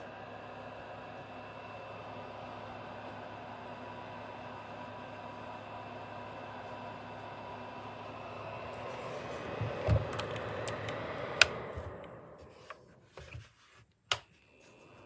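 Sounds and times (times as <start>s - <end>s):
heater fan whirring: 0.0s - 15.0s.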